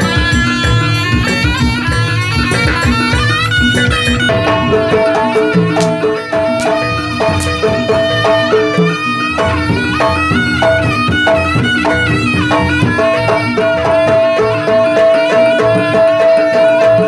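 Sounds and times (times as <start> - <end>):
steady held tones: 0.0 - 16.9
drums: 0.0 - 17.0
reedy wind melody: 0.0 - 17.0.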